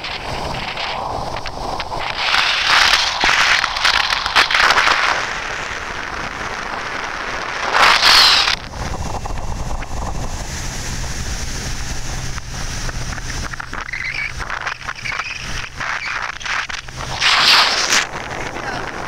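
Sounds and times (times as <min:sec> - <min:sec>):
low boat engine hum: 0:00.0 - 0:19.0
water rushing past boat: 0:00.0 - 0:19.0
wind buffeting microphone: 0:00.0 - 0:19.0.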